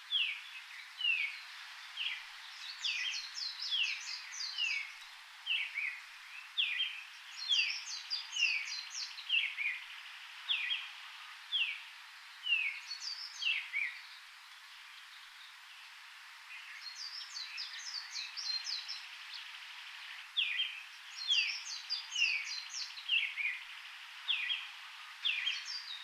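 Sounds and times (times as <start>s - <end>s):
background hiss: 0.0s - 26.0s
birds twittering: 0.0s - 26.0s
birds chirping: 0.1s - 26.0s.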